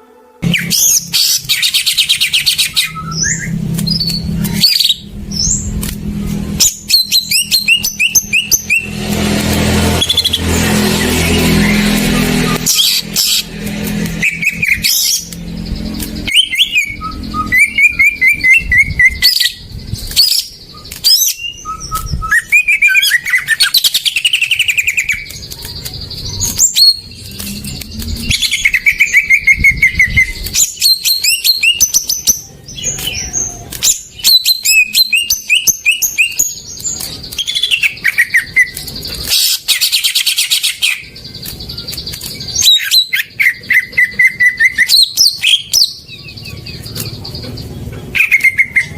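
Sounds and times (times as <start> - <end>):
bird singing chirps and whistles: 0.4 - 5.8, 6.6 - 48.9.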